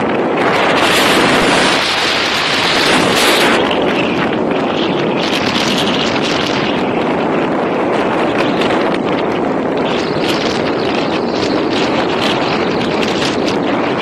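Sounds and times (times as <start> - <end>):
road and engine noise: 0.0 - 14.0
wind blasting over microphone: 0.0 - 14.0.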